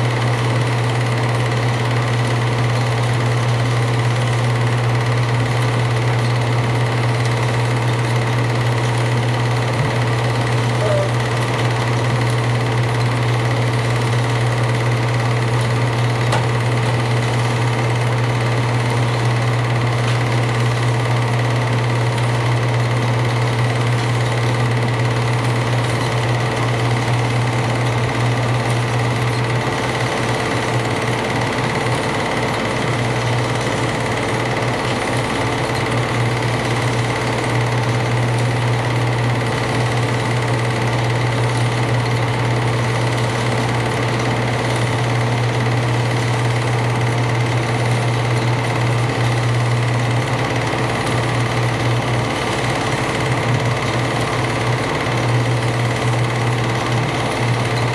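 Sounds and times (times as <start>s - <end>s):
film projector whirring: 0.0s - 57.9s.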